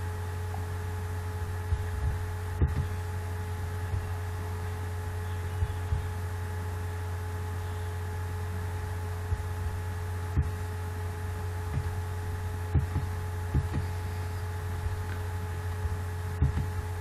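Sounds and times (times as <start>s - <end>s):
low electrical hum with whine: 0.0s - 17.0s.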